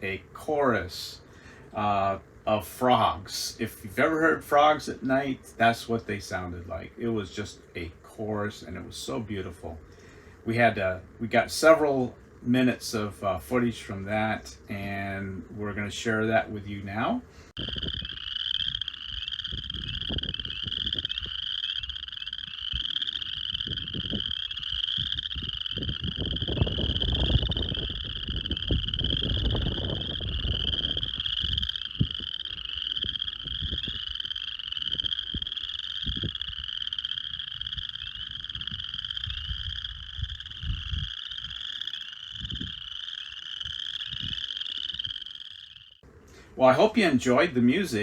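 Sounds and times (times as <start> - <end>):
frogs chorus calling: 0.0 - 48.0.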